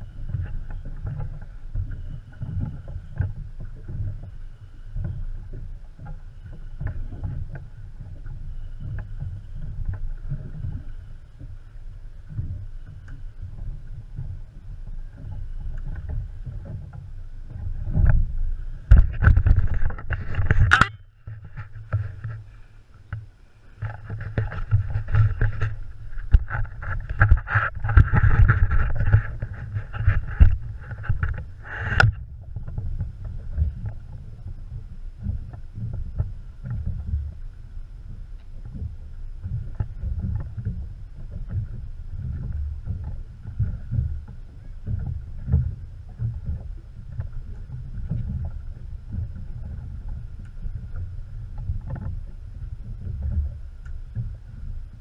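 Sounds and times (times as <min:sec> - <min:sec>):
water moving around boat: 0:00.0 - 0:55.0
wind buffeting microphone: 0:05.0 - 0:22.5, 0:23.8 - 0:55.0.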